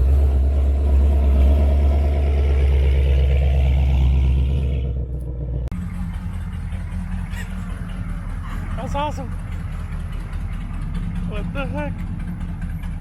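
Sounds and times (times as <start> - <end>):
car engine deep rumble: 0.0 - 13.0
quieter engine sound: 0.0 - 13.0.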